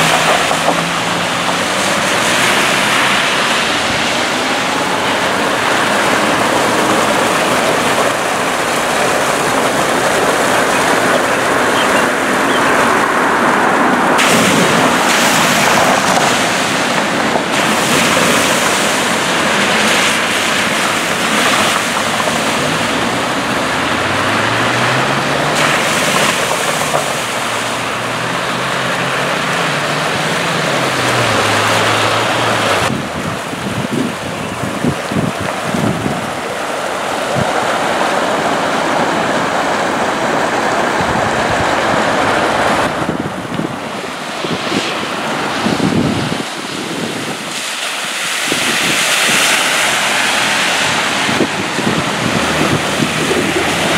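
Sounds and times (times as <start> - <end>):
vehicle engine passing: 0.0 - 46.5, 48.7 - 53.9
car tyres splashing: 0.0 - 53.9
water gushing and bubbling: 0.0 - 53.9.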